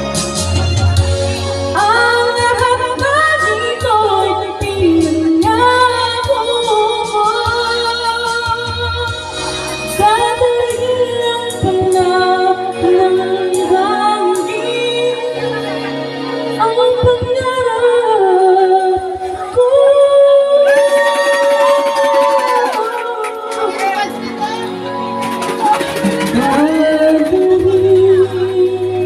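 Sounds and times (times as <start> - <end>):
instrumental backing track: 0.0 - 29.0
woman singing: 1.7 - 15.8, 16.5 - 23.8, 25.8 - 29.0.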